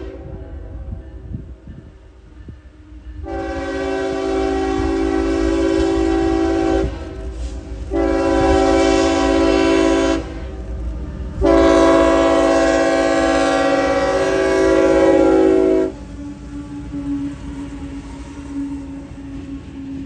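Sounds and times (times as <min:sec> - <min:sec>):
locomotive air horn blasts: 0:00.0 - 0:01.6, 0:03.2 - 0:10.7, 0:11.4 - 0:19.2
low rumble of train: 0:00.0 - 0:20.0.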